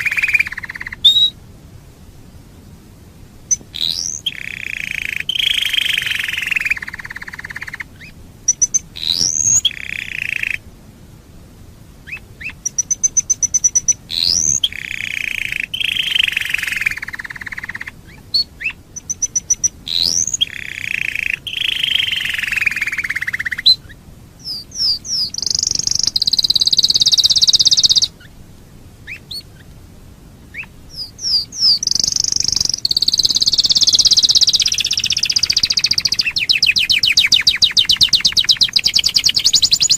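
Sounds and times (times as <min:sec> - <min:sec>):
canary singing: 0:00.0 - 0:01.4, 0:03.4 - 0:10.6, 0:12.0 - 0:28.4, 0:29.0 - 0:29.7, 0:30.5 - 0:39.9.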